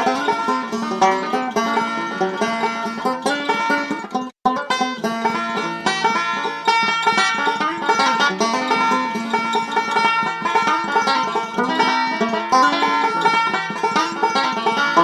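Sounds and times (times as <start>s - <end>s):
bluegrass tune with banjo: 0.0s - 15.0s.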